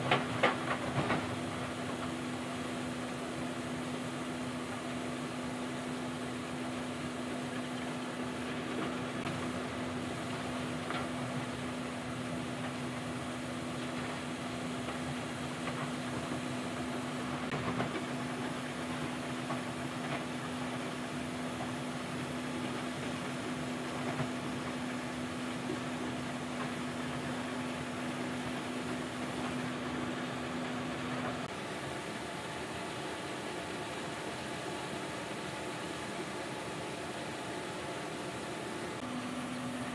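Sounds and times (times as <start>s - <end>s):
machine hum and hiss: 0.0s - 39.9s.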